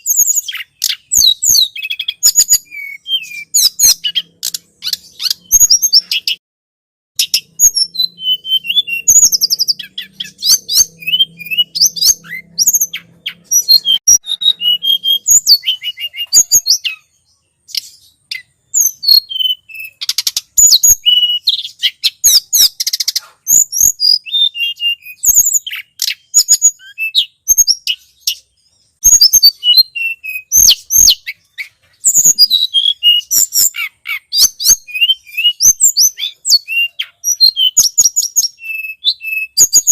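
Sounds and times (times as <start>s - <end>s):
songbird chirping and twittering: 0.0s - 6.4s, 7.2s - 39.9s.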